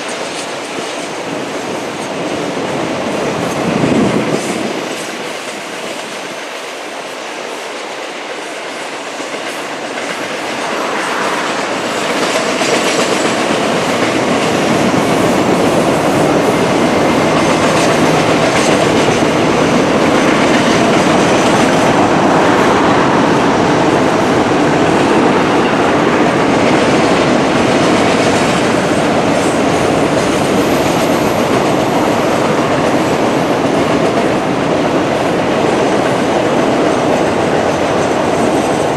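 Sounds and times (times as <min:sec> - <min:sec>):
train wheels running over track: 0:00.0 - 0:38.9.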